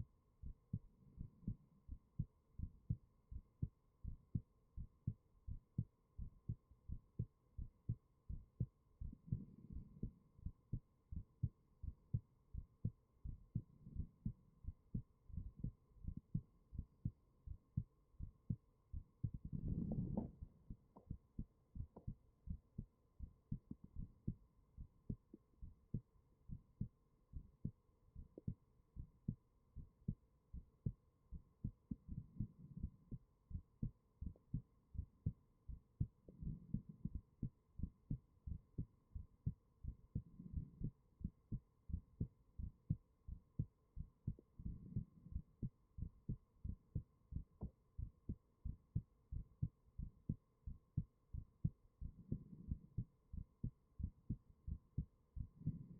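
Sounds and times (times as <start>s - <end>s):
faint steady hum: 0.0s - 55.9s
heartbeat thumps: 0.4s - 55.9s.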